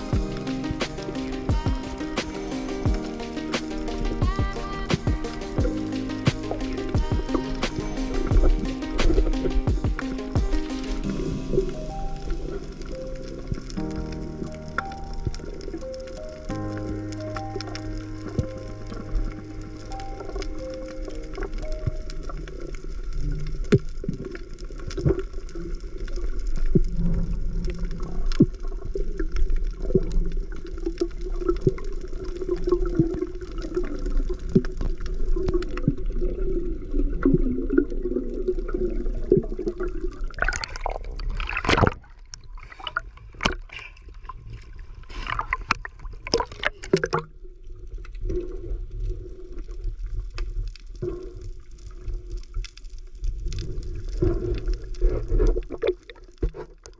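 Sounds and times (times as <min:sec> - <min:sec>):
underwater rush of water: 0:00.0 - 0:56.9
bubbling gurgles: 0:02.8 - 0:56.9.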